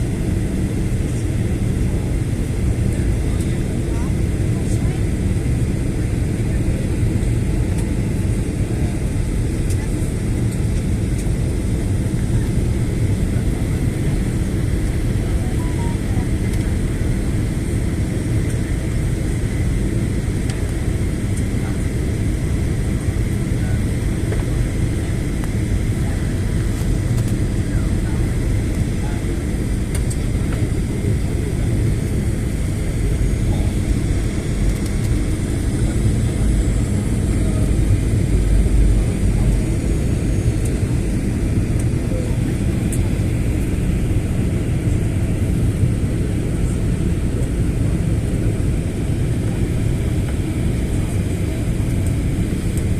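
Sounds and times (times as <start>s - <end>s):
plane cabin engine rumble: 0.0s - 52.9s.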